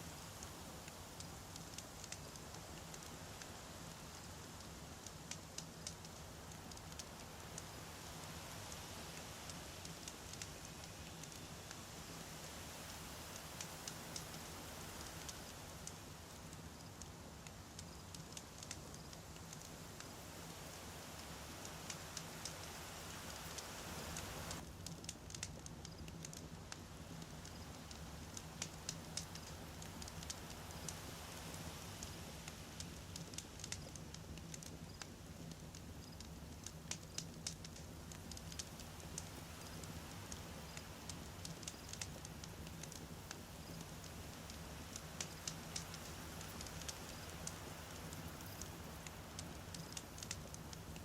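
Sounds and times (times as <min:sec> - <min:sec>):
fire hiss and low rumble: 0:00.0 - 0:51.0
campfire crackling and popping: 0:00.1 - 0:51.0.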